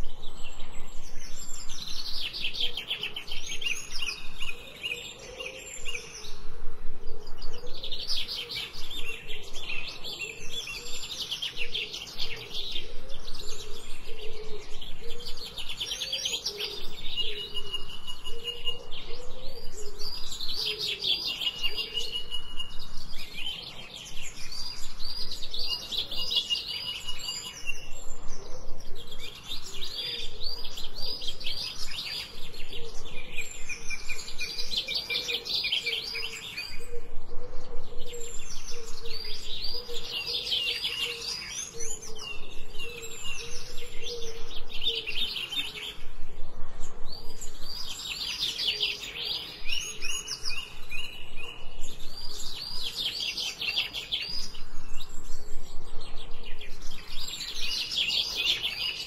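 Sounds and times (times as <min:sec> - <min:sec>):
songbirds chirping in trills: 0:00.0 - 0:59.0.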